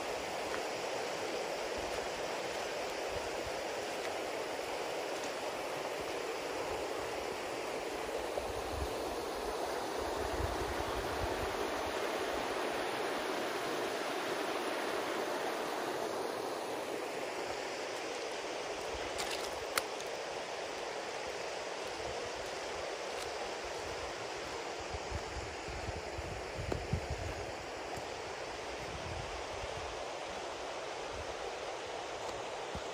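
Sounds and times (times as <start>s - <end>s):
river rushing over stones: 0.0s - 32.9s.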